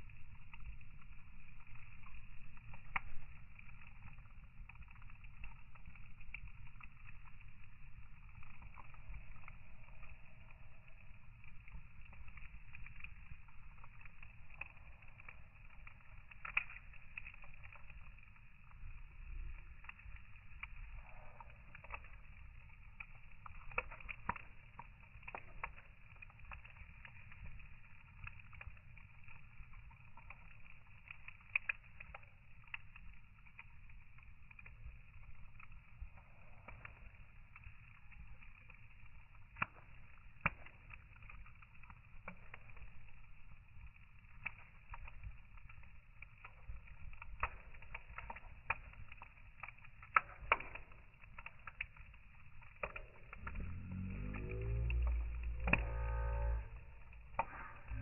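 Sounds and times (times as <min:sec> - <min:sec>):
fire crackling and popping: 0:00.0 - 0:58.0
low fire rumble: 0:00.0 - 0:58.0.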